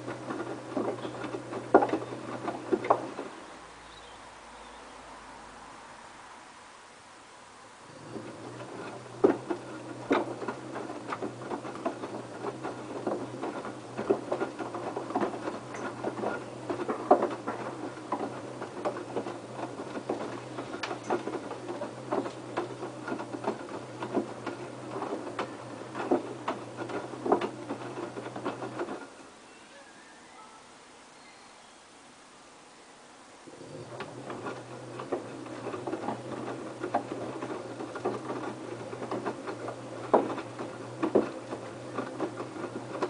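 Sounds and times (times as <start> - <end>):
wet laundry tumbling: 0.0 - 3.7, 8.0 - 29.4, 33.5 - 43.0
washing machine motor hum: 0.0 - 4.6, 7.7 - 29.5, 33.3 - 43.0.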